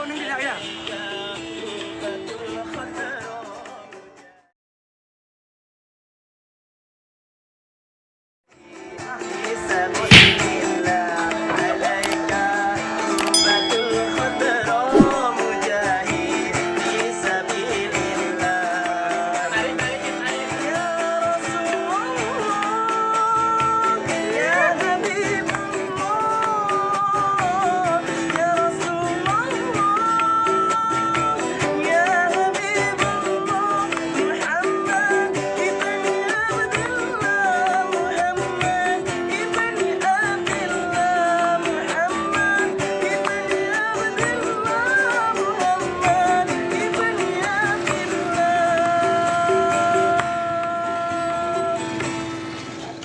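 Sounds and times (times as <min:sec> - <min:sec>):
guitar accompaniment: 0:08.7 - 0:53.0
person singing: 0:09.2 - 0:52.1.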